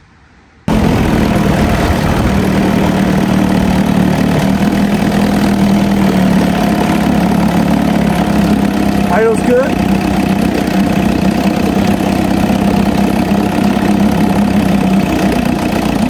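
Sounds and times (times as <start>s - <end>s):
outboard motor running: 0.7s - 16.0s
propeller churning water: 0.7s - 16.0s.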